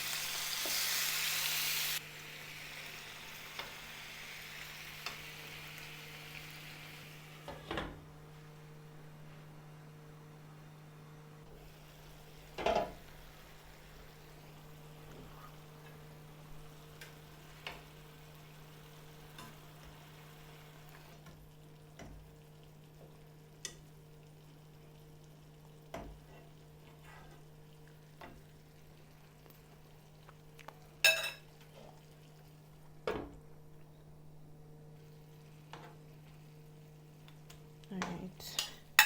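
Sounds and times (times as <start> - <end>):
food frying in a pot: 0.0 - 9.0, 11.5 - 39.0.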